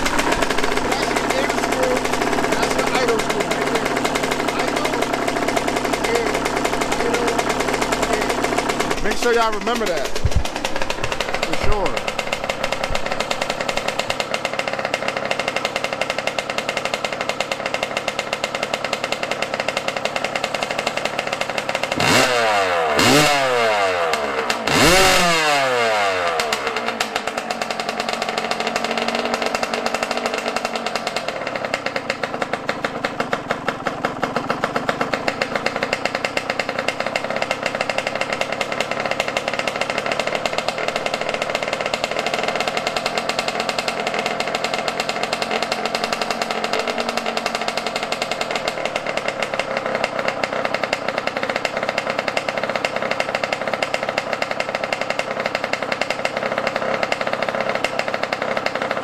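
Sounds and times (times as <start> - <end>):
two-stroke engine idling and revving: 0.0 - 59.0.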